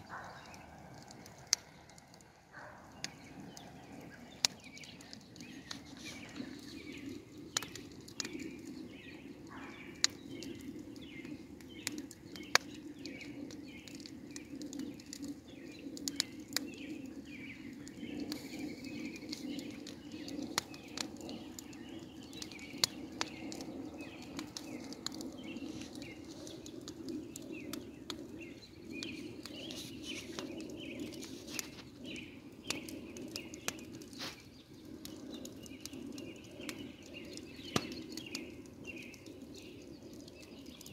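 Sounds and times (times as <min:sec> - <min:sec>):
sharp crackles and clicks: 0:00.0 - 0:40.9.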